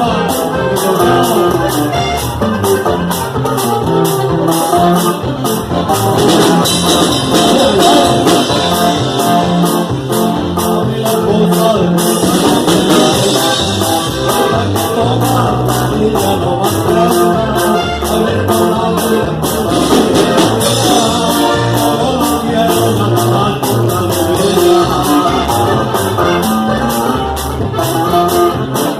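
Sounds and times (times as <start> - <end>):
latin band with brass and guitar: 0.0 - 28.9.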